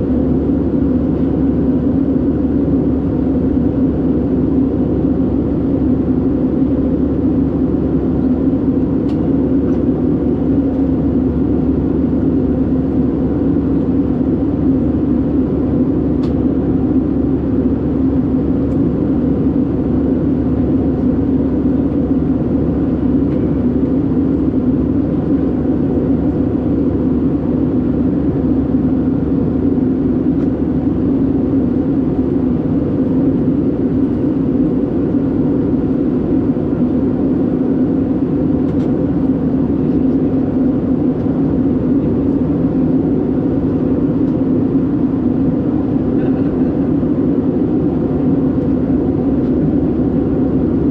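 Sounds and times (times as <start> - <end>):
airplane cabin engine drone: 0.0 - 50.9.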